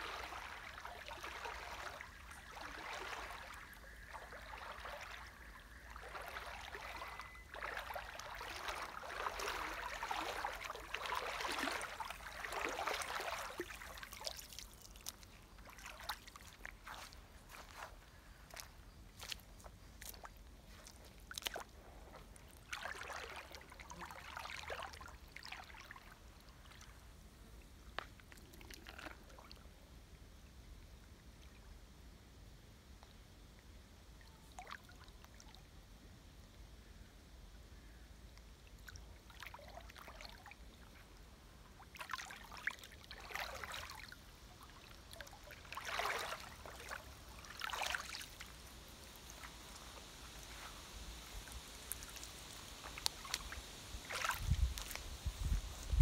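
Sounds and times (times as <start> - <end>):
creek water splashing: 0.0 - 27.2, 27.9 - 29.8, 38.6 - 56.0.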